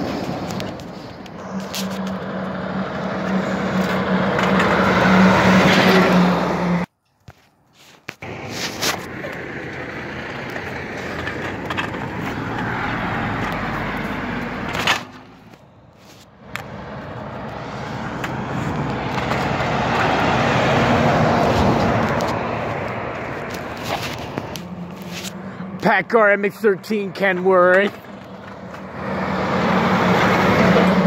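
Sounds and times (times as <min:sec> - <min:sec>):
diesel truck passing close: 0:00.0 - 0:06.9, 0:08.2 - 0:31.0
vehicle passing: 0:00.0 - 0:06.9, 0:08.2 - 0:31.0.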